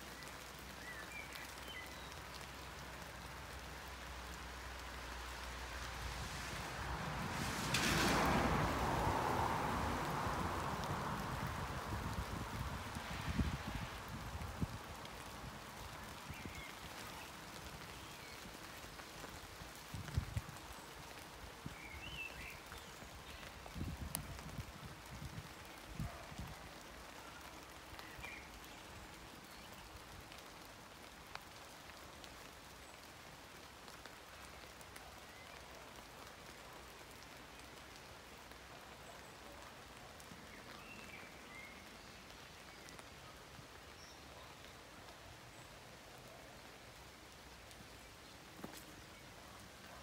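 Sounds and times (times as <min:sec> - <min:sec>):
rain pattering on leaves: 0:00.0 - 0:50.0.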